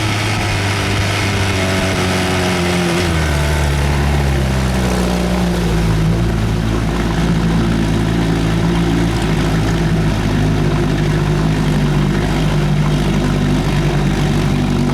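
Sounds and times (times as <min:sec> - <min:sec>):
outboard motor running steadily: 0:00.0 - 0:14.9.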